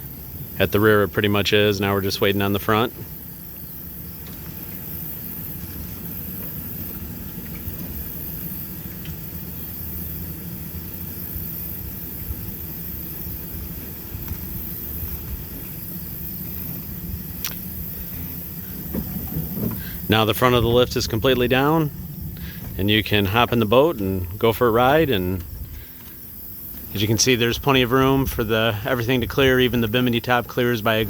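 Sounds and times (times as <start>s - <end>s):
boat lift rumbling with hiss: 0.0s - 31.0s.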